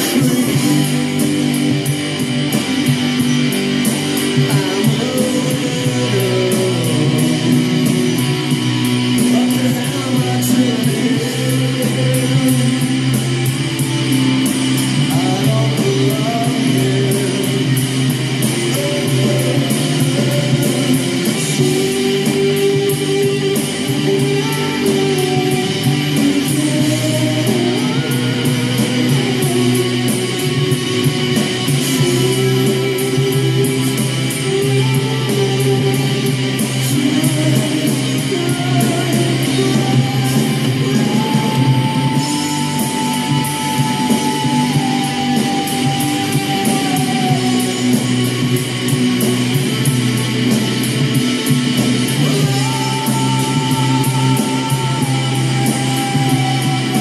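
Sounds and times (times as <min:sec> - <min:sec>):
rock music with electric guitar: 0:00.0 - 0:57.0.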